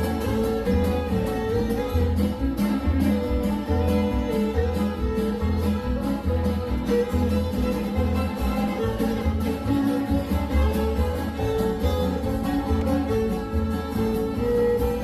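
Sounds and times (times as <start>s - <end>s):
fiddle melody: 0.0s - 15.0s
strummed acoustic guitars: 0.0s - 15.0s
upright bass plucking: 0.0s - 15.0s.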